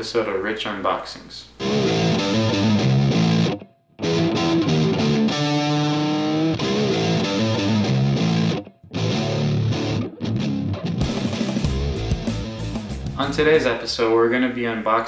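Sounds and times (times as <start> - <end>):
guitar intro music: 1.6 - 13.8.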